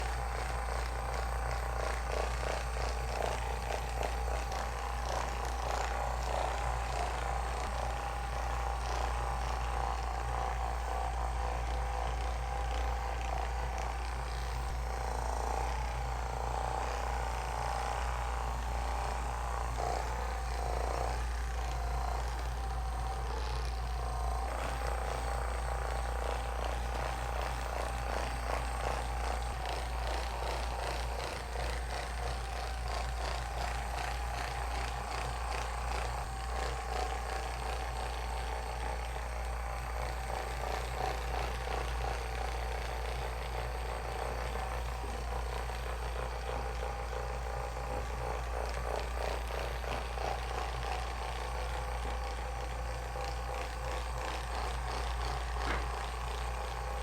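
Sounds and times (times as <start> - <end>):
small motor humming and whining: 0.0 - 57.0.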